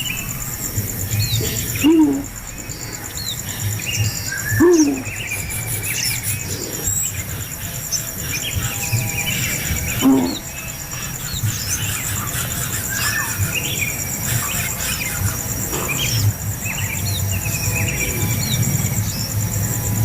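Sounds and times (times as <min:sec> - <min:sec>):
birds chirping: 0:00.0 - 0:20.0
high pulsing insect trill: 0:00.0 - 0:20.0.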